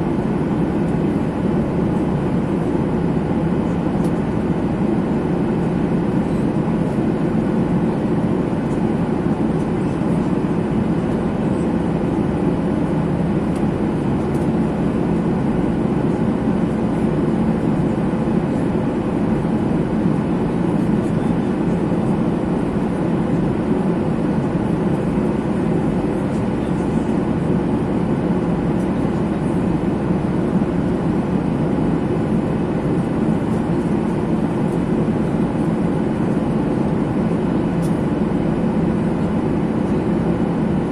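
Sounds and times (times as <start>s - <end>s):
jet airliner cabin rumble: 0.0s - 40.9s.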